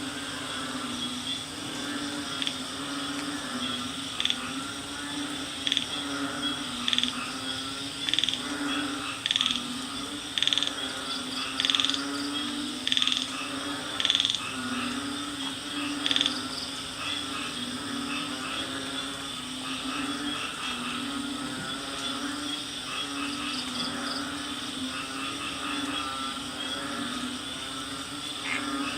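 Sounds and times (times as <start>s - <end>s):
high insect trill: 0.0s - 28.9s
low wavering frog chorus: 0.0s - 28.9s.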